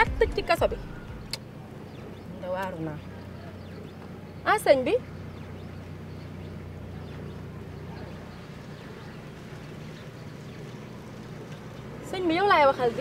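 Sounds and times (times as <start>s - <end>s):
road noise inside cabin: 0.0s - 13.0s
van engine hum: 0.0s - 13.0s.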